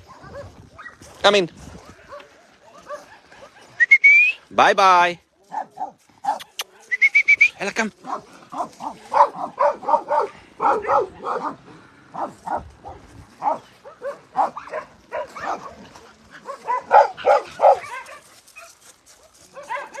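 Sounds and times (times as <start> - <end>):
dogs barking: 0.0 - 1.1, 2.0 - 3.8, 5.4 - 6.7, 8.0 - 20.0.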